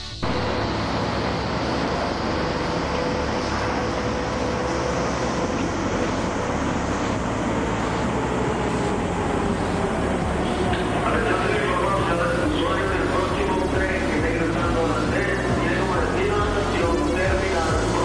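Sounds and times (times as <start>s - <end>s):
metro train running noise: 0.0s - 18.0s.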